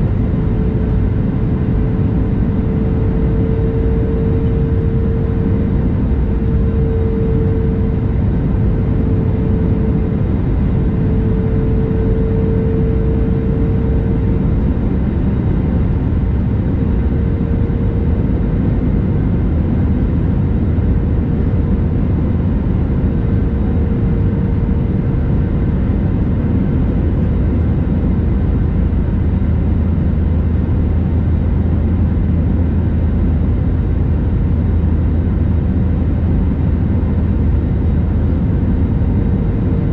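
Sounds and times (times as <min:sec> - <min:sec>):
aircraft cabin engine rumble: 0:00.0 - 0:39.9
deep low hum: 0:00.0 - 0:39.9
faint steady hum: 0:00.0 - 0:39.9.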